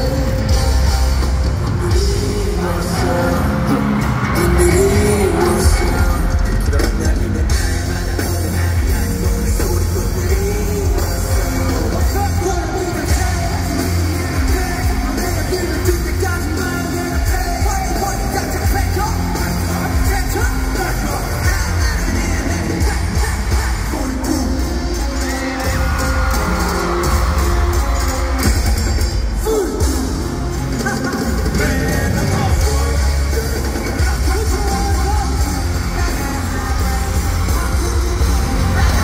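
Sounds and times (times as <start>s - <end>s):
group singing and rapping: 0.0s - 27.8s, 29.4s - 39.0s
backing track with heavy bass: 0.0s - 39.0s.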